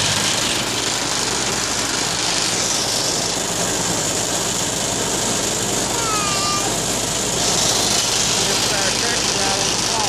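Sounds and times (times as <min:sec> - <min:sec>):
tractor engine running: 0:00.0 - 0:05.9, 0:06.7 - 0:10.0.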